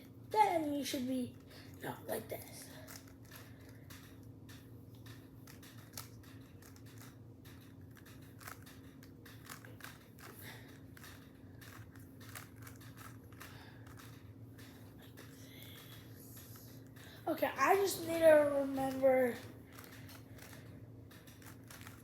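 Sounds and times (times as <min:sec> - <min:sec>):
steady low hum: 0:00.0 - 0:22.0
puzzle cube clicking and rattling: 0:00.7 - 0:22.0.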